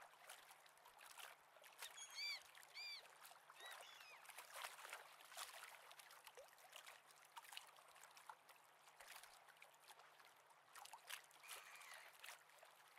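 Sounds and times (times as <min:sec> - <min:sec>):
water lapping at shoreline: 0:00.0 - 0:12.9.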